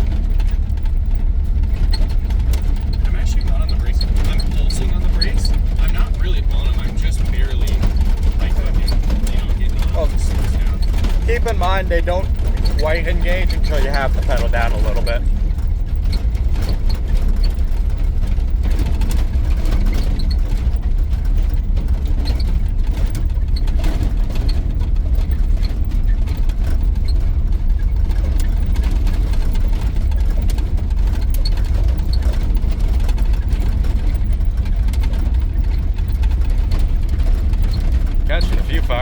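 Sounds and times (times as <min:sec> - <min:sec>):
truck engine and road rumble: 0:00.0 - 0:39.0.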